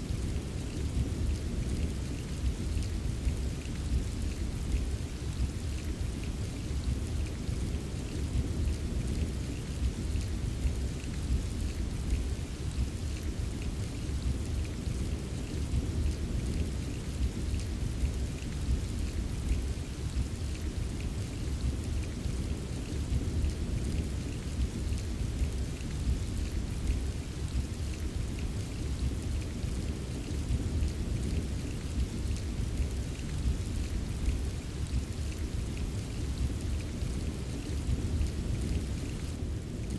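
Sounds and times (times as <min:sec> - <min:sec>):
continuous low rumble: 0:00.0 - 0:39.9
steady rainfall: 0:00.0 - 0:39.9.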